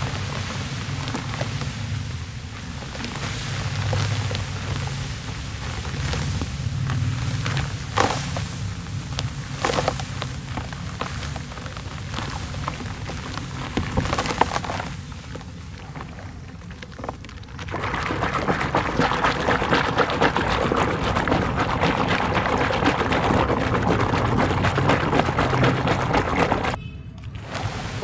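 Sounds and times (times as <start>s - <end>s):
wet squelching and sloshing: 0.0s - 26.8s
dirt crackling into water: 0.0s - 28.0s.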